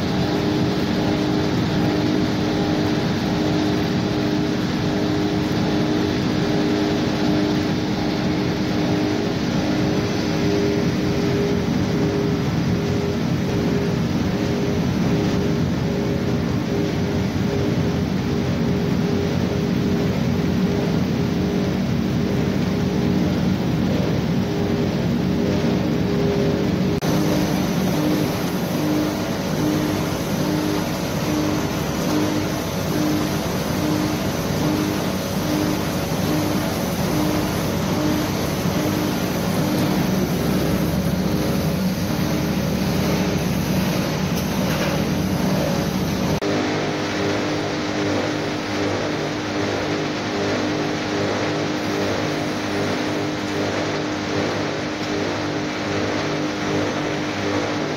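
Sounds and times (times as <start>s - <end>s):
machine droning with pulsing hum: 0.0s - 57.9s.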